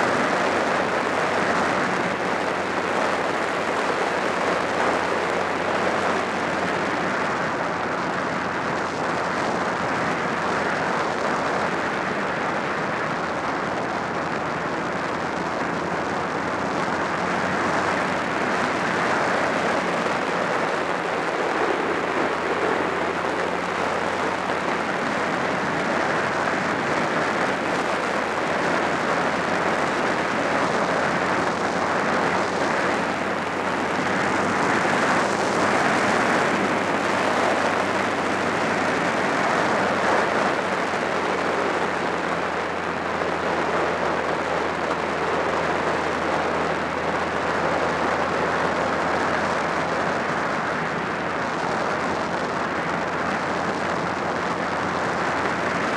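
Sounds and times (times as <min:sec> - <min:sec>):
motorcycle engine drone: 0:00.0 - 0:55.9
wind rush on microphone: 0:00.0 - 0:55.9.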